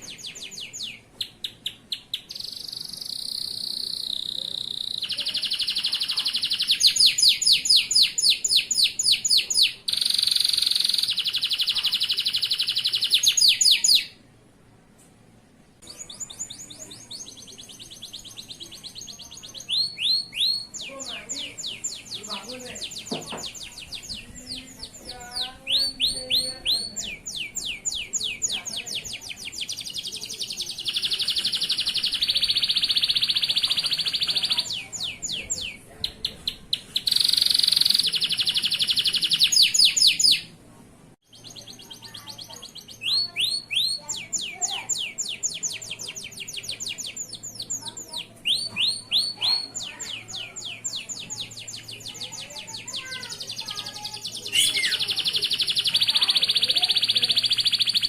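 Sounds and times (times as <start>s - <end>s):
canary singing: 0.0s - 14.2s, 15.8s - 40.6s, 41.3s - 58.0s.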